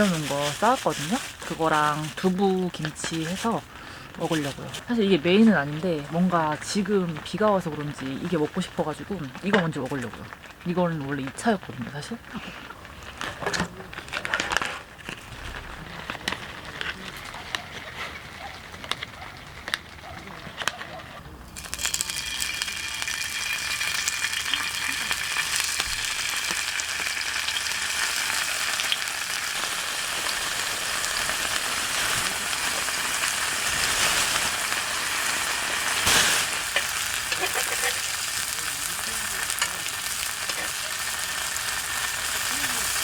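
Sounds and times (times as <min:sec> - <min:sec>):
pancakes sizzling in oil: 0:00.0 - 0:13.4, 0:21.5 - 0:43.0.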